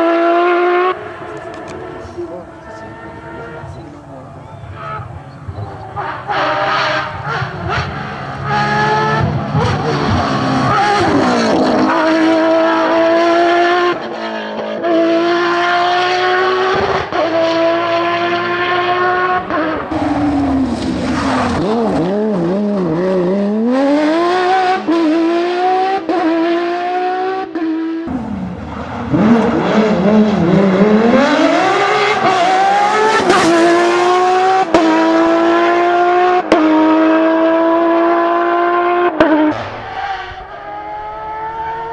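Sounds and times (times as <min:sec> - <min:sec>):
racing engine at full throttle: 0:00.0 - 0:41.9.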